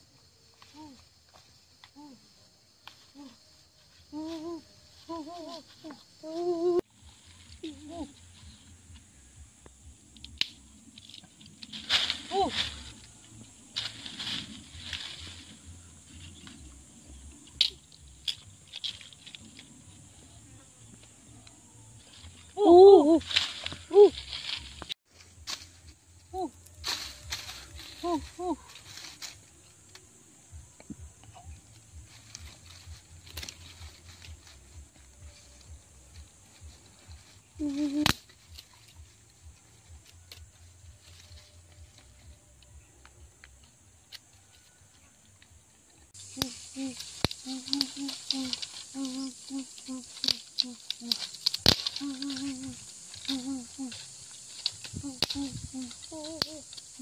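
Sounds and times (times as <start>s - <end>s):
rustling of dry leaves: 0.0s - 57.0s.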